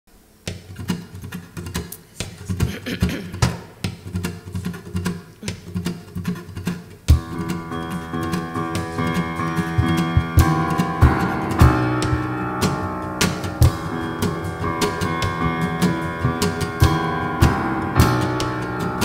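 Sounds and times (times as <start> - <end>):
acoustic guitar playing: 0.4 - 19.0
rhythmic percussion strokes: 0.5 - 19.0.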